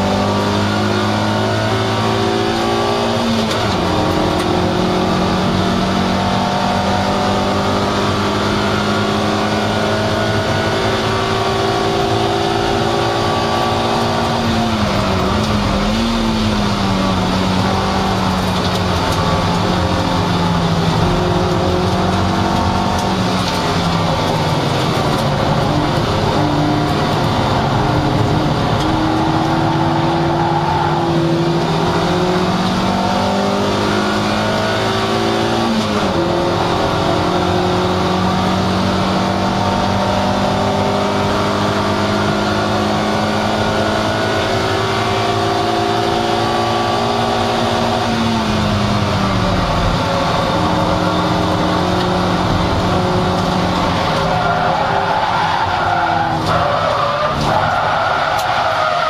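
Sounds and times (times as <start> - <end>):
race car engine at high revs: 0.0 - 59.0
road and wind noise: 0.0 - 59.0.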